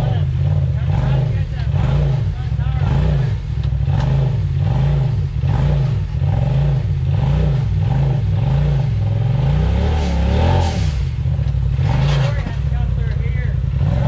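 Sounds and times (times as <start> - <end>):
engine revving in throttle blips: 0.0 - 14.0.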